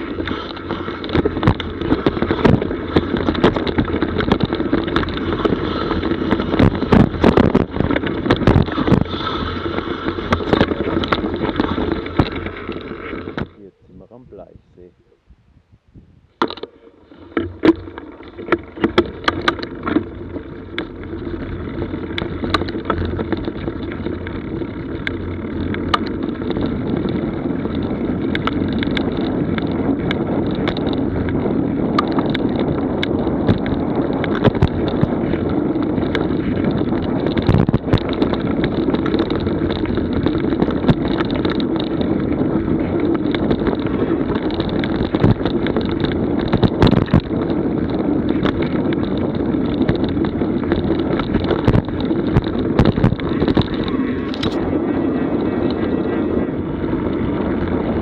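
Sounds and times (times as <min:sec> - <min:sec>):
bike clicks and rattles: 0:00.0 - 0:13.6, 0:16.3 - 0:58.0
bike tyres rolling over dirt: 0:00.0 - 0:14.9, 0:16.3 - 0:58.0
wind on microphone: 0:00.0 - 0:58.0.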